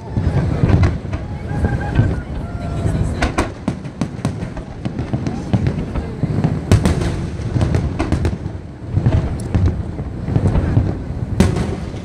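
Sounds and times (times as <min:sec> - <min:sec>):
fireworks bangs and crackles: 0:00.0 - 0:12.0
low rumble of booms: 0:00.0 - 0:12.0.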